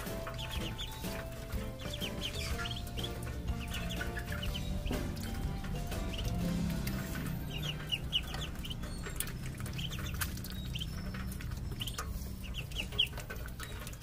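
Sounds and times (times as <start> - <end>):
ducklings peeping: 0.0 - 14.0.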